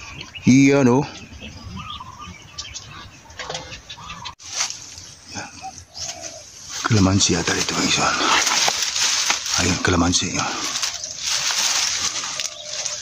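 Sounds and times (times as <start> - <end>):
faint outdoor background noise: 0.0 - 13.0
small birds chirping: 0.0 - 13.0.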